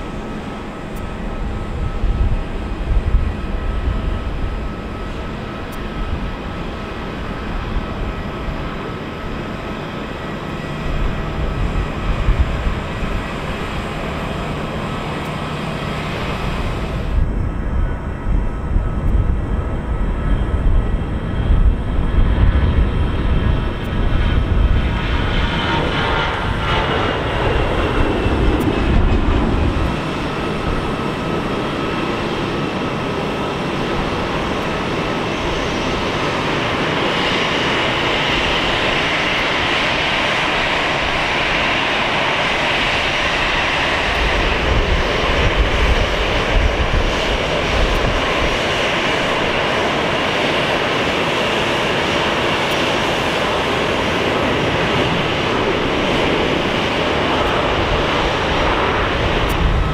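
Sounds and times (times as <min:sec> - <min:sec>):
jet engine high whine: 0:00.0 - 0:59.9
jet engine roar: 0:00.0 - 0:59.9.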